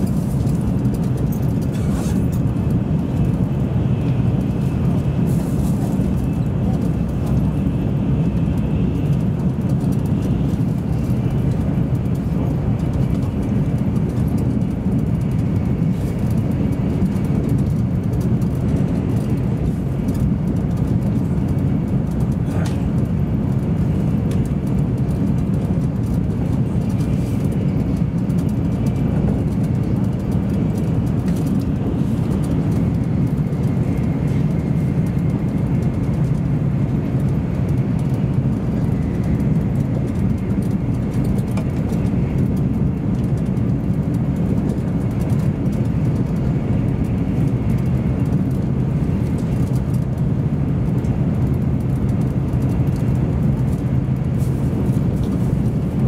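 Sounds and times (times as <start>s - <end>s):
train rumbling at speed: 0.0s - 56.0s.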